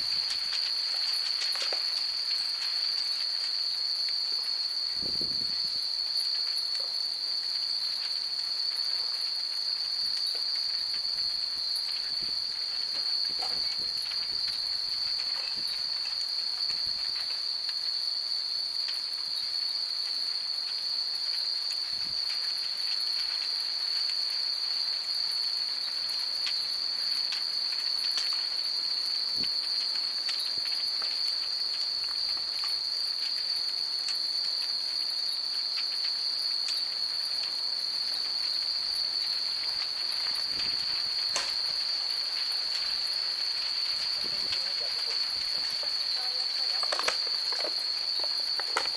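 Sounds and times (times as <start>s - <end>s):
steady high-pitched hiss: 0.0s - 48.9s.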